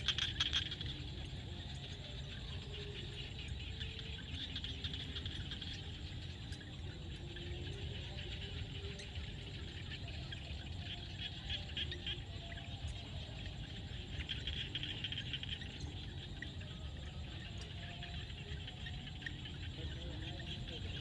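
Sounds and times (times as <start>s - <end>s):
frogs and insects chorus: 0.0s - 21.0s.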